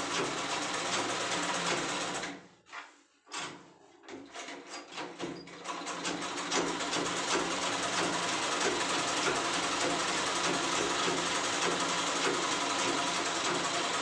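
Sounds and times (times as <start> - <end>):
sewing machine stitching: 0.0 - 2.4, 3.4 - 14.0.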